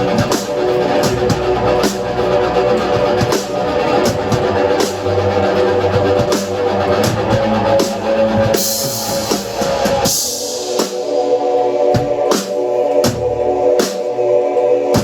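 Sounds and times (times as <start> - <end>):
crash cymbals: 0.0 - 14.1.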